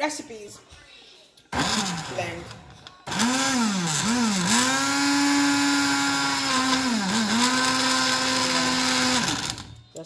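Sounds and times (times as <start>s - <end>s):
electric blender motor whine: 1.6s - 9.8s.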